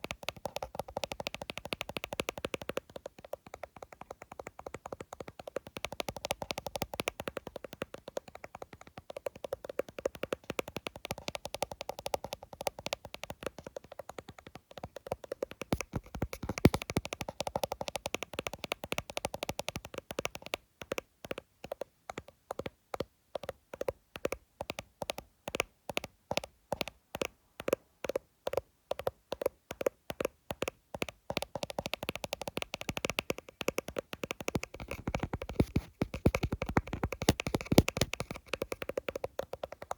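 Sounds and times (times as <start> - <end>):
fingers tapping on phone screen: 0.0 - 39.9.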